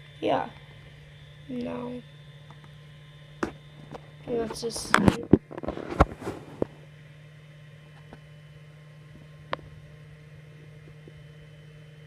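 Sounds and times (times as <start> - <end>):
three d printer humming: 0.0 - 12.0.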